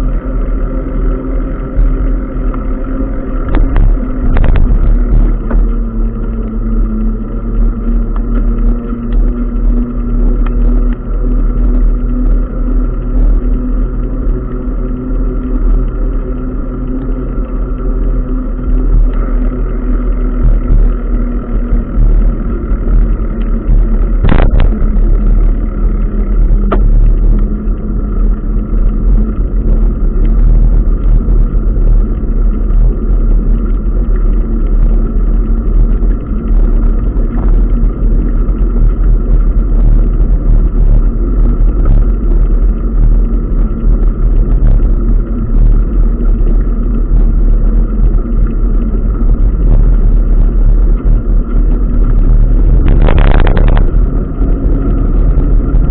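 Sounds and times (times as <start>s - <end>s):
wind and road rumble: 0.0s - 55.9s.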